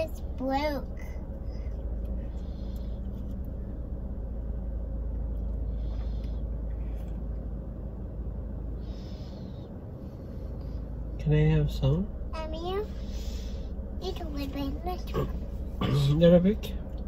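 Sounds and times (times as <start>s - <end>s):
faint hum: 0.0s - 17.0s
idling car cabin rumble: 0.0s - 17.0s.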